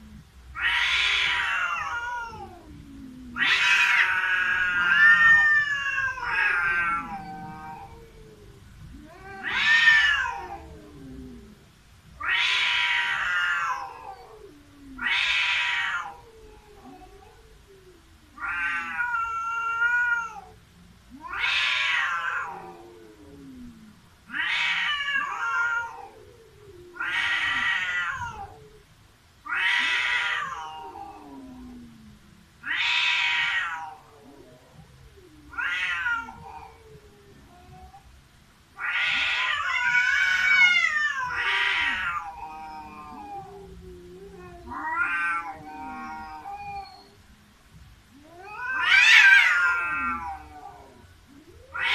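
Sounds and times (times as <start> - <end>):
cats yowling: 0.0 - 51.9.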